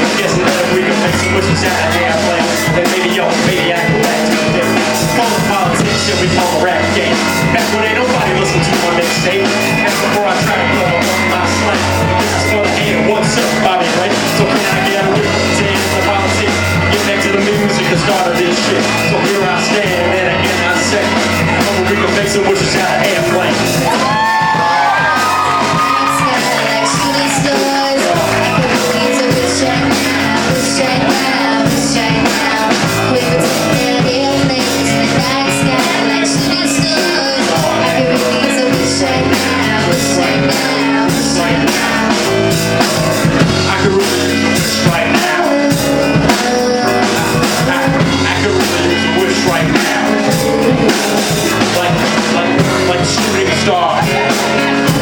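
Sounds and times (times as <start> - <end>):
person singing: 0.0 - 55.0
song with drums and guitar: 0.0 - 55.0.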